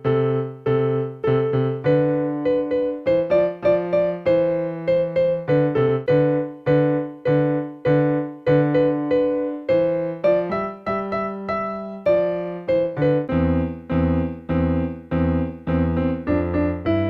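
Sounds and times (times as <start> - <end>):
electronic keyboard notes: 0.0 - 17.0.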